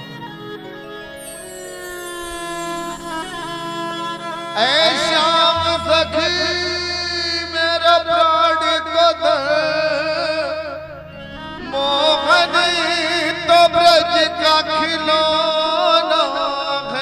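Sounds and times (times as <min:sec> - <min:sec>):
devotional melody with vibrato: 0:00.0 - 0:17.0.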